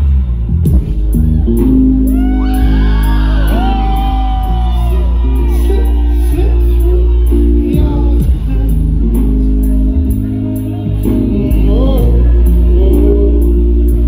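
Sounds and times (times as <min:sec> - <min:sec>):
electric bass: 0:00.0 - 0:14.0
synthesizer chords: 0:00.0 - 0:14.0.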